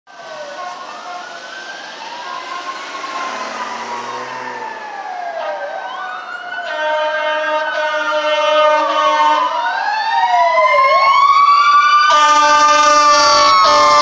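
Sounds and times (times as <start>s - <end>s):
fire engine sirens wailing: 0.1s - 14.0s.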